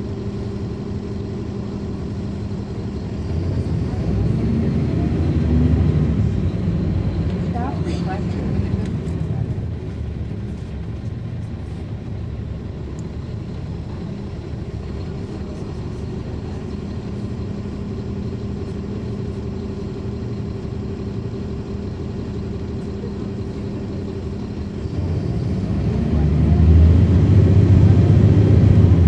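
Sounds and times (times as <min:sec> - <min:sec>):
bus diesel engine rumbling: 0:00.0 - 0:29.0.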